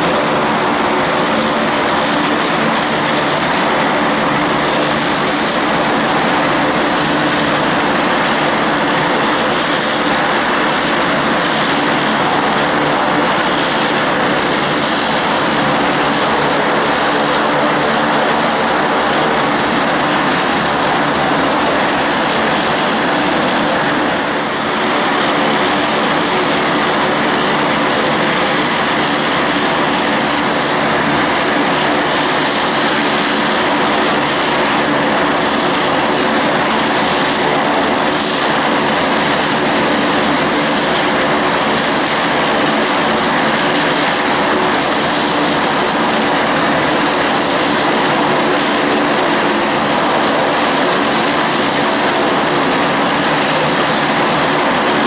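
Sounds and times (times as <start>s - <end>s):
aircraft engines droning: 0.0s - 55.0s.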